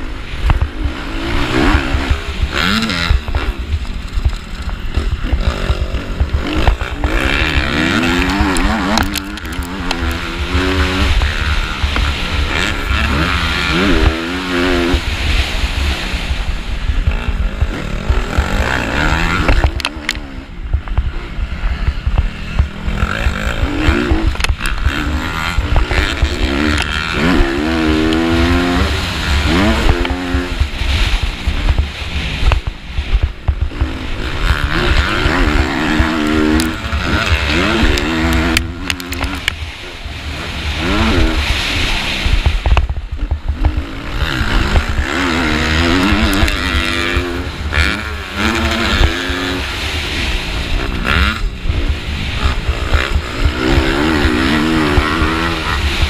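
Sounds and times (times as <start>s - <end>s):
motorbike engine revving: 0.0s - 56.0s
wind buffeting microphone: 0.0s - 56.0s.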